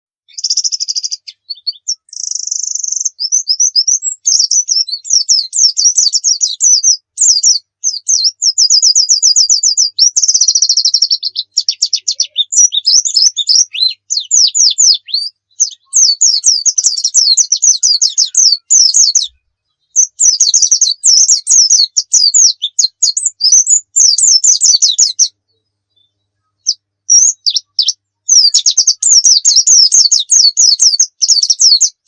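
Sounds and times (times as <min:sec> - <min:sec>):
bird singing rapid trills: 0:00.3 - 0:32.0.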